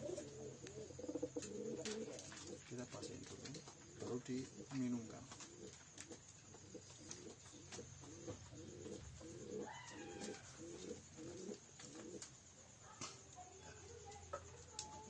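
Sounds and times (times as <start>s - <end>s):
pigeons cooing: 0.0s - 12.5s.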